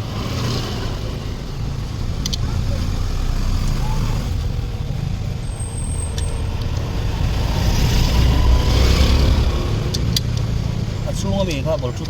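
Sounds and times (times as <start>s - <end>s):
road traffic rumble: 0.0s - 12.0s
vehicle passing: 0.0s - 12.0s.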